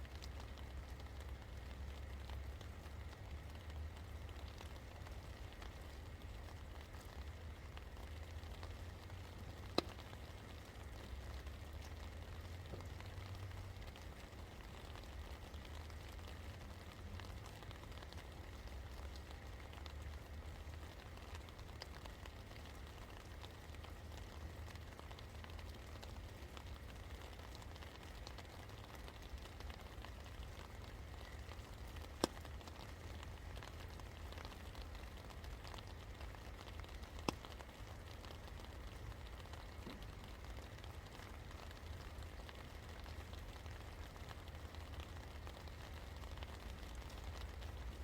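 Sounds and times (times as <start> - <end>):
steady rain patter: 0.0 - 48.0.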